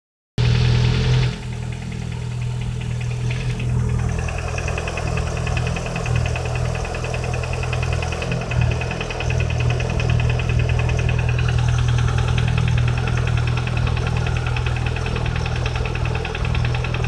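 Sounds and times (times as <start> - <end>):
car engine idling: 0.4 - 17.0.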